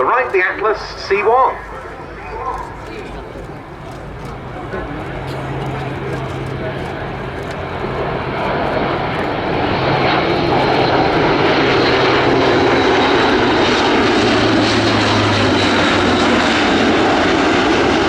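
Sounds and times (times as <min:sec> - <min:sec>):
low hum: 0:00.0 - 0:18.0
turboprop aircraft engines droning: 0:00.0 - 0:18.0.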